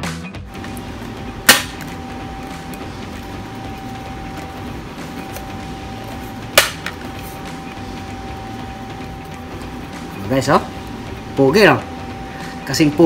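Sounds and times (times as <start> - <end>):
room noise: 0.5 - 13.0.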